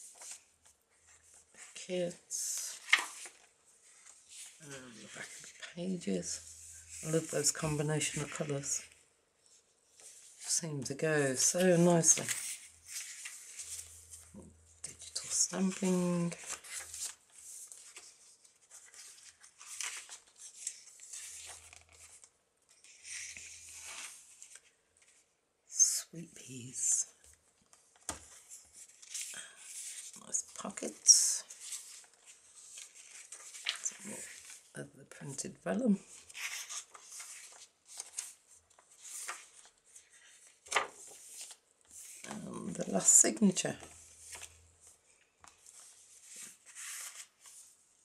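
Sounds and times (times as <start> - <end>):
paper pages rustling: 0.0 - 1.8, 2.4 - 10.6, 11.3 - 25.3, 26.7 - 34.7, 36.0 - 48.0.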